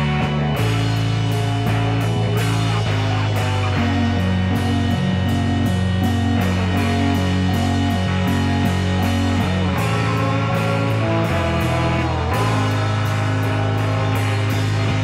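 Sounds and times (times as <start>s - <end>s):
guitar riff: 0.0s - 15.0s
held low bass note: 0.0s - 15.0s
psychedelic rock band playing: 0.0s - 15.0s.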